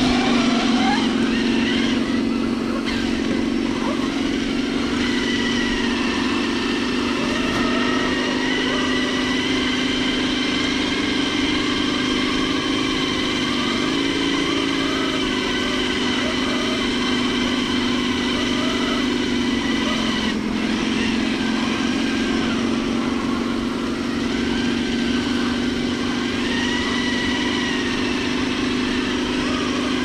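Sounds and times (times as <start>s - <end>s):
electric motor whining: 0.0s - 30.0s.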